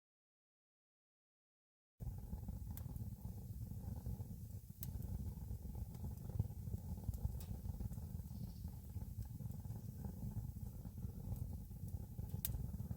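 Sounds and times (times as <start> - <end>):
campfire rumbling: 2.0 - 12.9.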